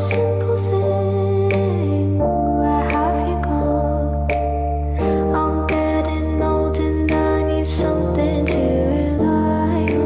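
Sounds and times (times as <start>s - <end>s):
soft background music chords: 0.0s - 10.0s.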